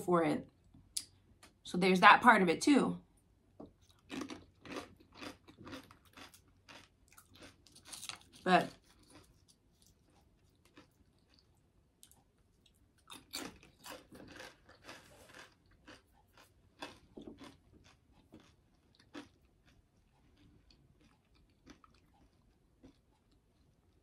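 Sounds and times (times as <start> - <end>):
faint chewing of food: 3.6 - 24.0.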